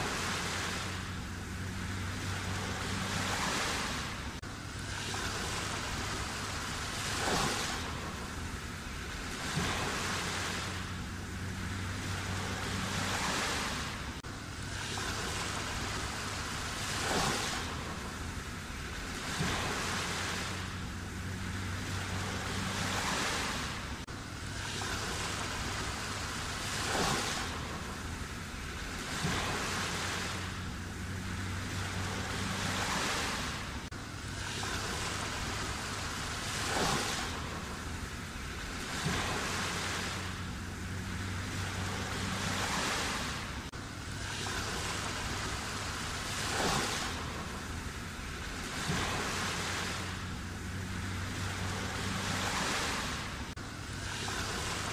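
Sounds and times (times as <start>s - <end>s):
sea waves breaking: 0.0s - 54.9s.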